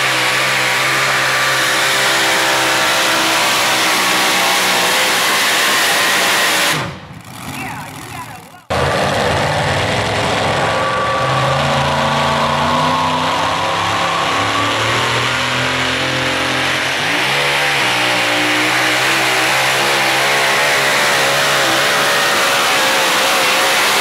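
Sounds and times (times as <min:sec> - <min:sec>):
pulling truck engine revving: 0:00.0 - 0:24.0.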